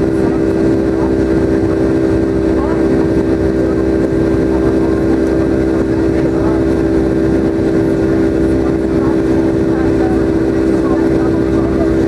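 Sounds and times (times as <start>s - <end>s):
jet engines droning: 0.0s - 12.0s.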